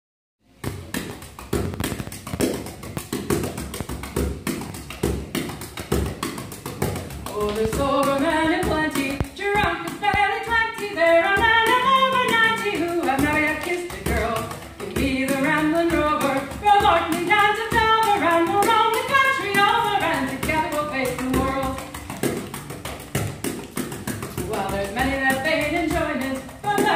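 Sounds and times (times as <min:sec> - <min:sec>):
frame drum beats: 0:00.6 - 0:26.9.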